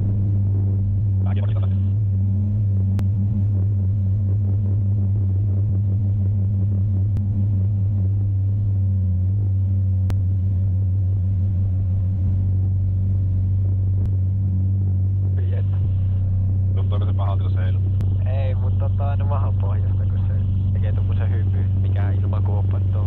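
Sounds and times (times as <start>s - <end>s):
propeller engine droning: 0.0s - 23.0s.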